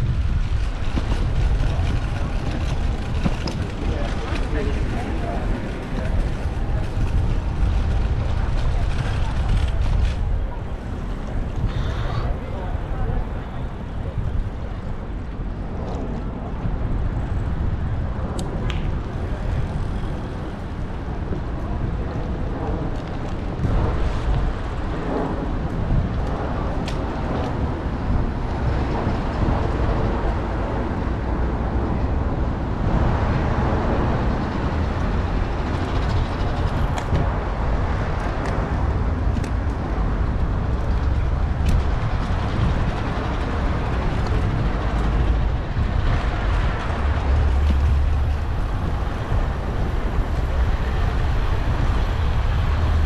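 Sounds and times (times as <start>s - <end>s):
traffic rumble and road noise: 0.0s - 53.0s.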